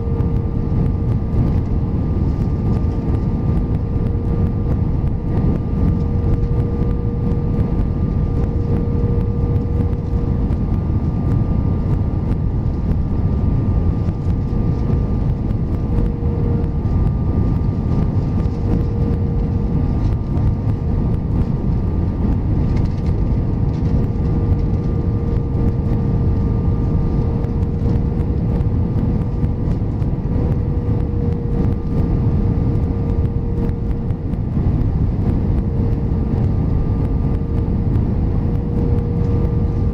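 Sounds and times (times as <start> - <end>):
airplane cabin roar: 0.0 - 39.9
faint steady whine: 0.0 - 39.9.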